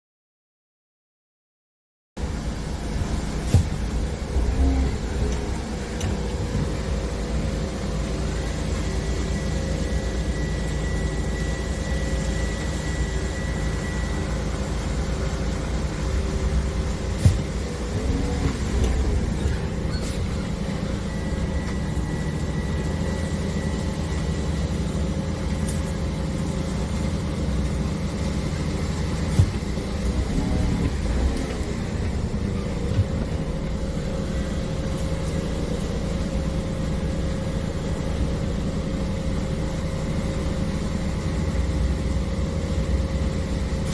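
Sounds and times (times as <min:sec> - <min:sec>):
vehicle running with low hum: 0:02.2 - 0:43.9.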